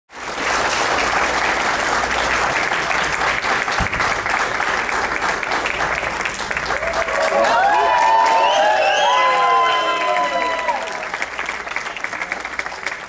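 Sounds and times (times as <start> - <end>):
audience applause: 0.1 - 13.0.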